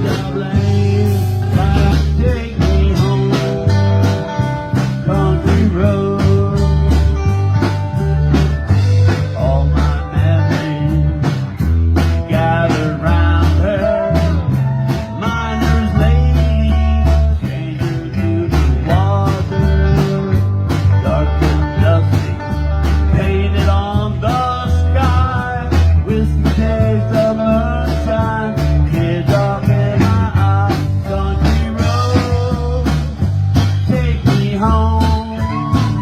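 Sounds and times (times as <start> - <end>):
bass: 0.0 - 36.0
lead guitar with bent notes: 0.0 - 36.0
steady drum beat: 0.0 - 36.0.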